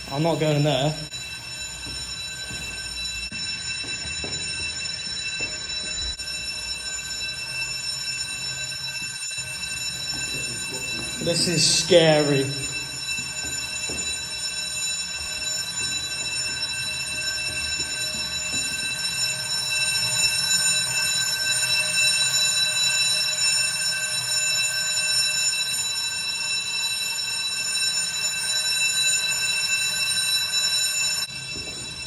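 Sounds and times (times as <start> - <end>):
high electronic alarm tone: 0.0 - 32.0.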